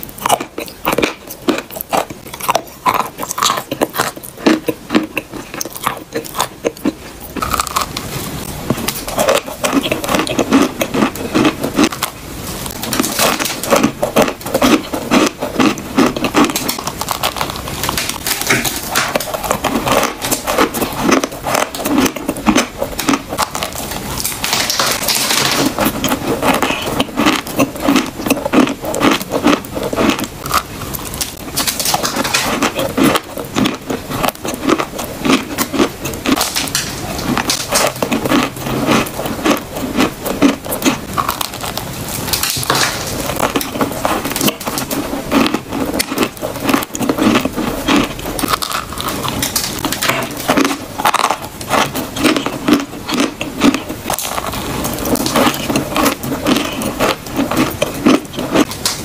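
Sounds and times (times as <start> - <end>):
chewing chalk crunching: 0.0 - 59.0.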